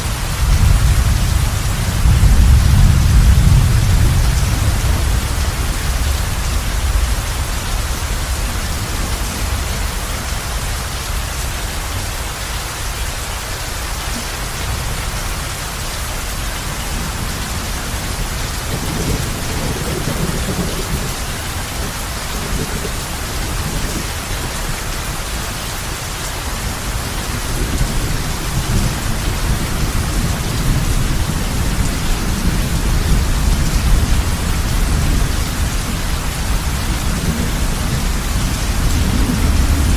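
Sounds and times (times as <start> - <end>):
heavy rain on a roof: 0.0 - 39.9
thunder rumbling: 0.2 - 10.7, 16.9 - 39.9.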